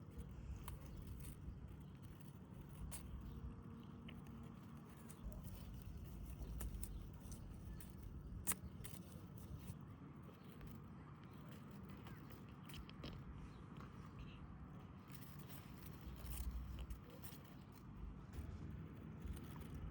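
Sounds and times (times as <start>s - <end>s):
low outdoor rumble: 0.0s - 19.9s
soft rustles and clicks: 0.0s - 19.9s.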